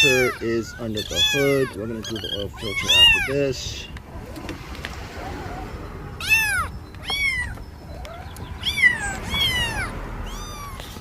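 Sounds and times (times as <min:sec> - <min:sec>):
cat meowing: 0:00.0 - 0:03.4, 0:05.2 - 0:11.0.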